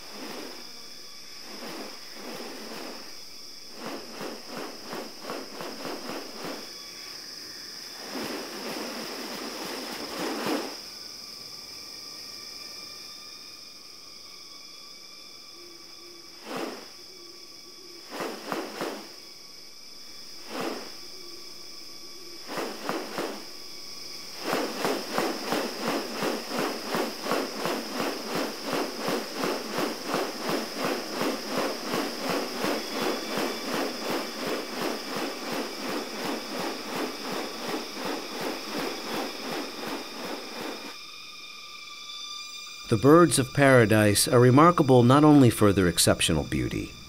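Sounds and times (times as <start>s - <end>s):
high insect drone: 0.0s - 47.0s.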